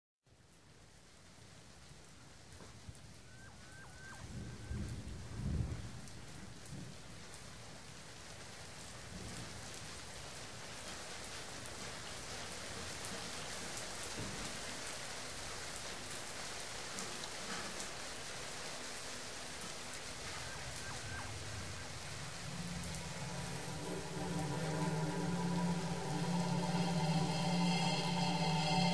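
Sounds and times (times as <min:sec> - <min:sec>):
steady rain hiss: 0:00.3 - 0:28.9.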